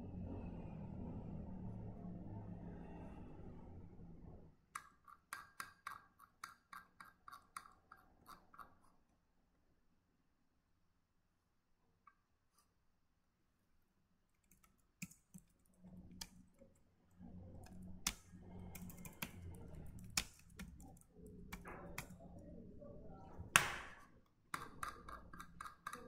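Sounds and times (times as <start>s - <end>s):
faint low hum: 0.0s - 4.8s, 8.9s - 26.0s.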